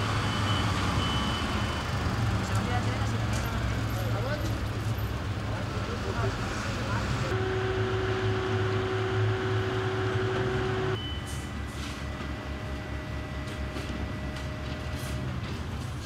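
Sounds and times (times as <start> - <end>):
motor vehicles rumbling: 0.0 - 16.0.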